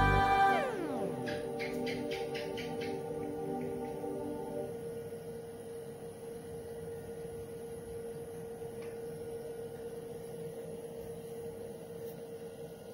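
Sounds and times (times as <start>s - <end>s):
steady mid-pitched hum: 0.0s - 12.9s.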